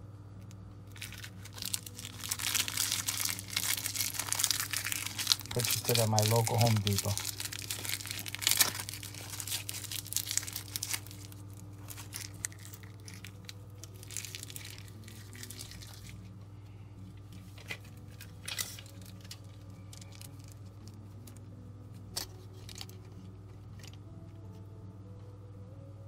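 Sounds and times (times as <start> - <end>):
steady low hum: 0.0 - 26.0
plastic bag crinkling and tearing: 0.9 - 16.4, 17.4 - 21.4, 22.1 - 24.0.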